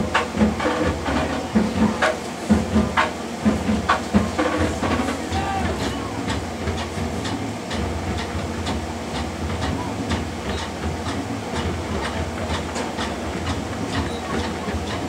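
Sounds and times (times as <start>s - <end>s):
crowd noise: 0.0s - 15.0s
marching drumline playing: 0.0s - 15.0s.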